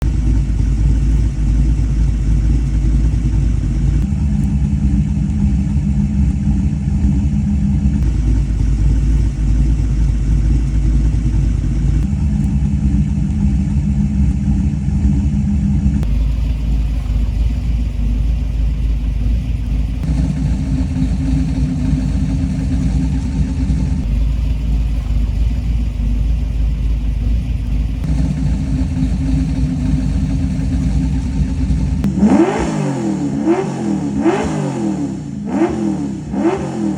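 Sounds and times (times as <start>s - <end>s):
engine running through exhaust: 0.0s - 36.9s.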